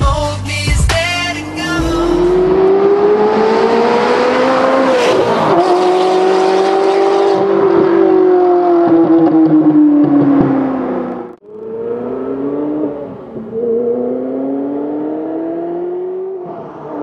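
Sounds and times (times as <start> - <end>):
sports car engine accelerating past: 2.3 - 17.0.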